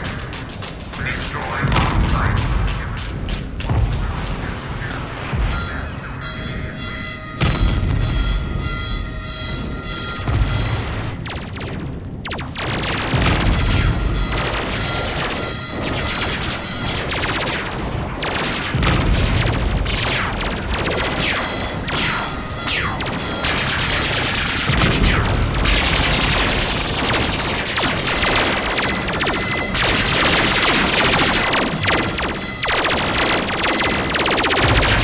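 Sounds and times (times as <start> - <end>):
low booming explosions: 0.0 - 35.0
laser gun zaps: 6.8 - 35.0.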